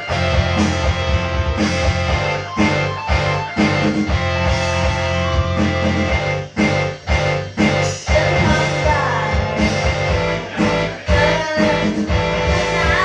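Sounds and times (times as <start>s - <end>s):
guitar-led pop-rock music: 0.0s - 13.0s.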